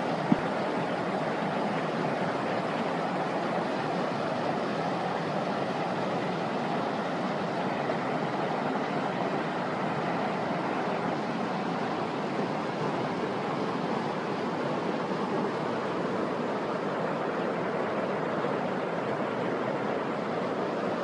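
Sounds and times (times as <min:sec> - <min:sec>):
stream rushing over boulders: 0:00.0 - 0:21.0.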